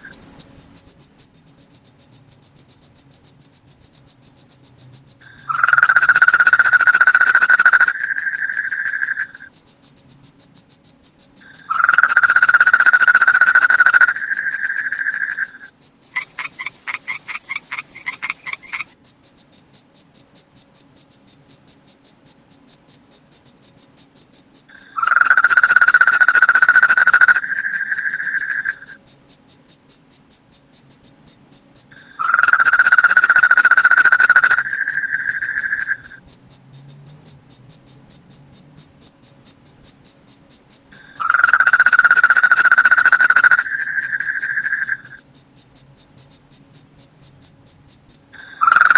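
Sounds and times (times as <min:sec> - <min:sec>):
crickets chirping: 0:00.0 - 0:48.9
lower louder insect trill: 0:00.0 - 0:48.9.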